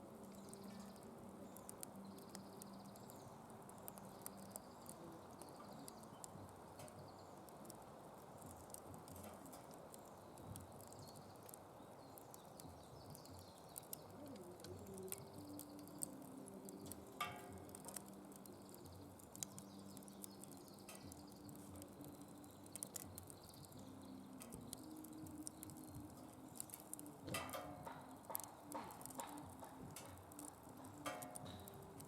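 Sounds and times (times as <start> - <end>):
faint hiss: 0.0 - 32.0
wood fire crackling and popping: 0.0 - 32.0.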